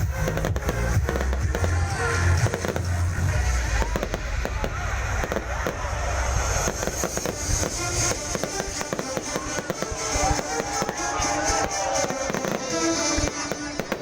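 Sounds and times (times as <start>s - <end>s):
fireworks crackling bangs: 0.0s - 14.0s
music playing: 0.0s - 14.0s.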